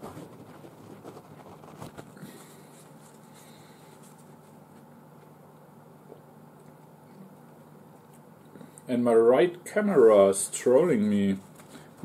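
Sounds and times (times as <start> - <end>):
faint hum and hiss: 0.0 - 12.0.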